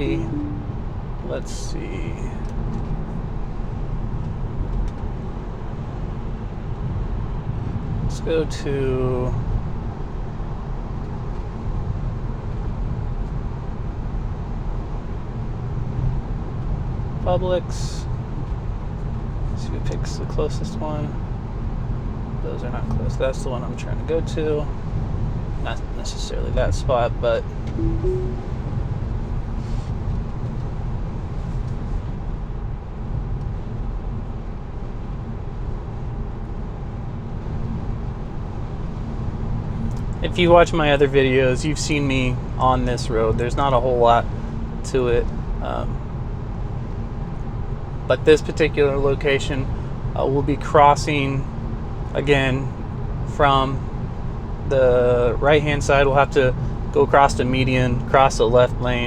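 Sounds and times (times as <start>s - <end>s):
road and tyre noise in car: 0.0s - 28.5s, 29.6s - 59.0s.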